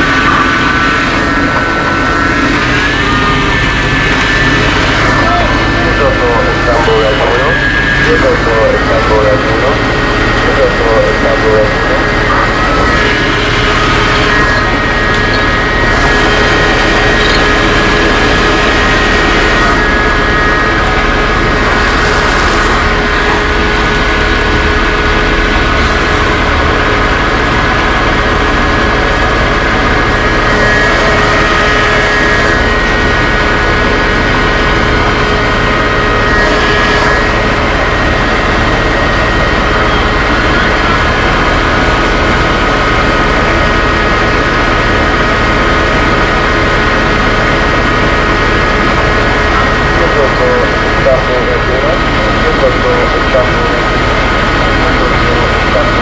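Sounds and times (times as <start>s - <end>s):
fire truck engine at high revs: 0.0s - 56.0s
water pump whine: 0.0s - 56.0s.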